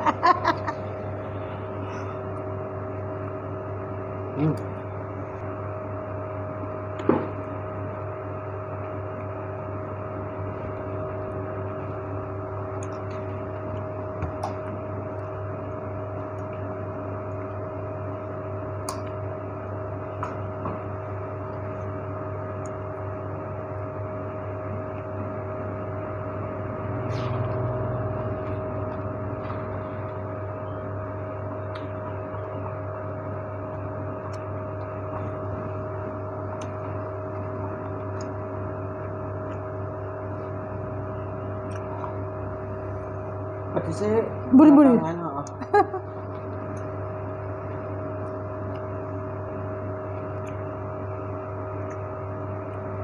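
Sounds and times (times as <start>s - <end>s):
desk fan motor humming: 0.0s - 53.0s.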